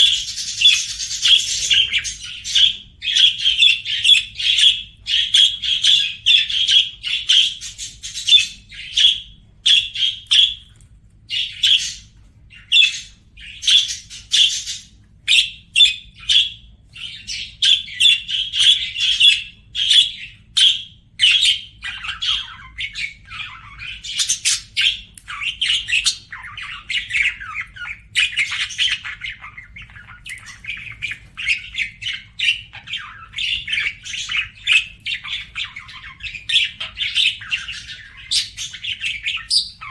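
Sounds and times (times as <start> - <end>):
budgerigars chattering: 0.0 - 10.6, 11.3 - 39.9.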